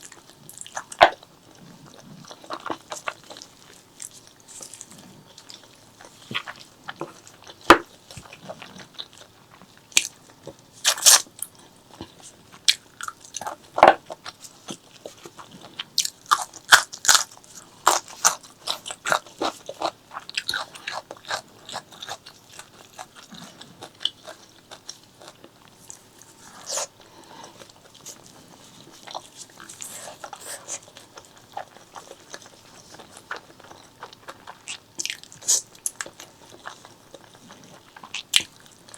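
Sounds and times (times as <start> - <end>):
chewing with wet mouth clicks: 0.0 - 38.9.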